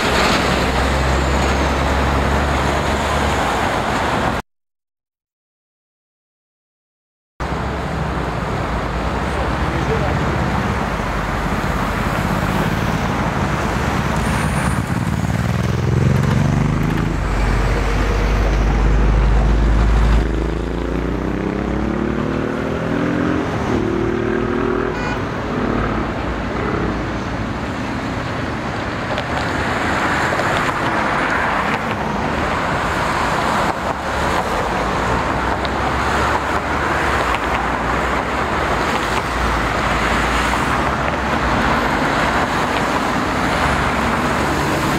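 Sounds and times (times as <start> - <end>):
traffic and tyre noise: 0.0 - 4.4, 7.4 - 44.9.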